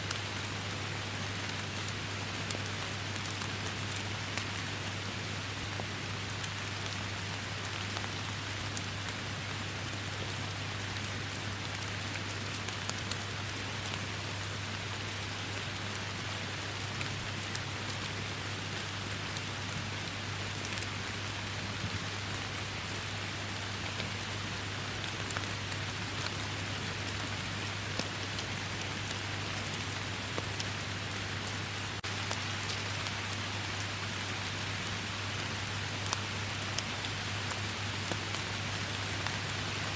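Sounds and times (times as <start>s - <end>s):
rain pattering in forest: 0.0s - 39.9s.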